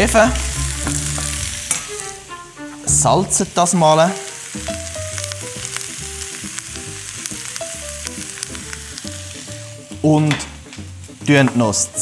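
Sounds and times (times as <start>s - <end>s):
soft melody with bass line: 0.0s - 3.6s, 4.3s - 12.0s
vegetables sizzling in a pan: 0.0s - 12.0s.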